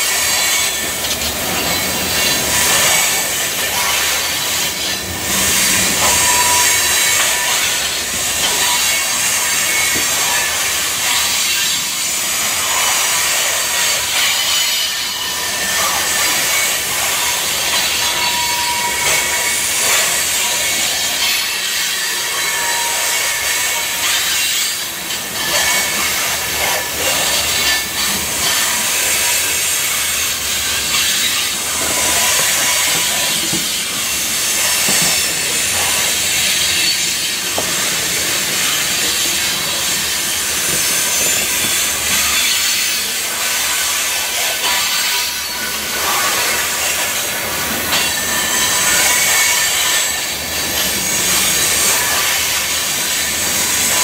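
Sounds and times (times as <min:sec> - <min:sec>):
train wheels hissing on rail: 0:00.0 - 0:54.0.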